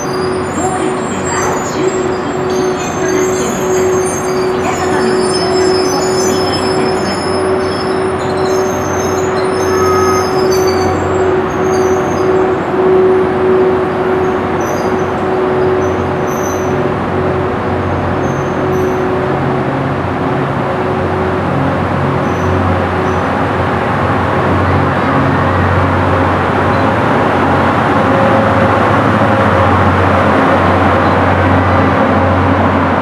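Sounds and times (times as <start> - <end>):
electric locomotive hum: 0.0 - 33.0
train running noise: 0.0 - 33.0.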